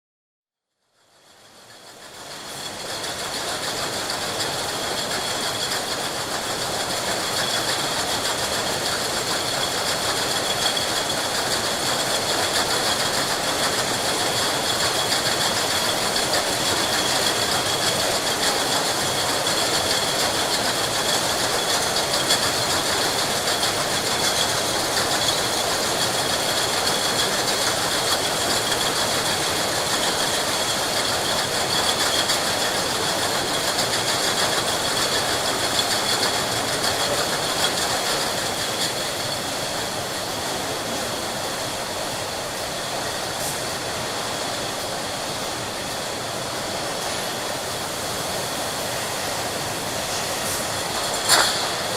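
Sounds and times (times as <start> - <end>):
machinery running: 1.9 - 51.9.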